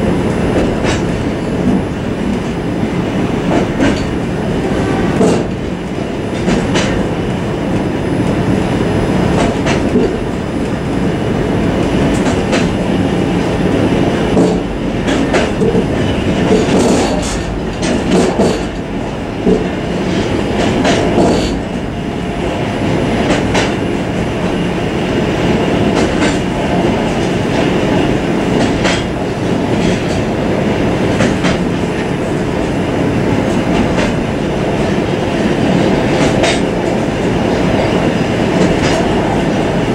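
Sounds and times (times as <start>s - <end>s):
train rumble and rattle: 0.0s - 39.9s.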